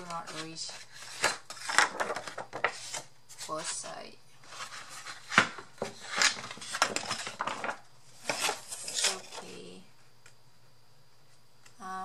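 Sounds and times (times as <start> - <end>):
stiff paper rustling: 0.0 - 9.7.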